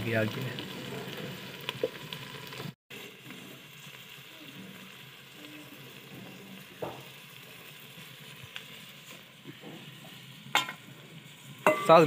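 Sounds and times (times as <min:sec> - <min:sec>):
pot sizzling over fire: 0:00.0 - 0:12.0.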